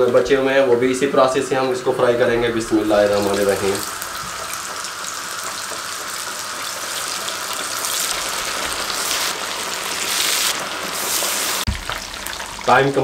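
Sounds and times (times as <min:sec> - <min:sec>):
fish deep-frying in oil: 0:02.4 - 0:13.0.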